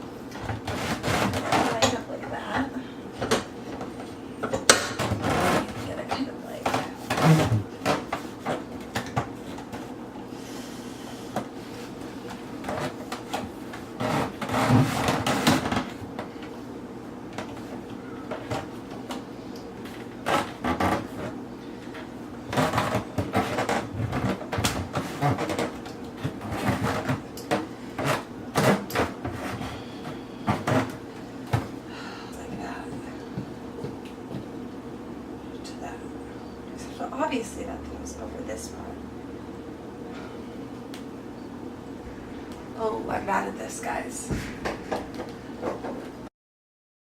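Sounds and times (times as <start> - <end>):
steady background hum: 0.0 - 46.3.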